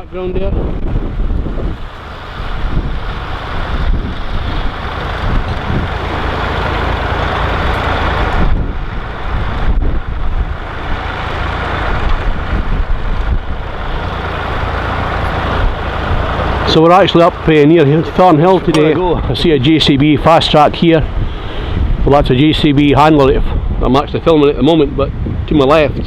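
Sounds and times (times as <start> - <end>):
wind buffeting microphone: 0.0 - 26.0
vehicle engine running: 0.8 - 23.6.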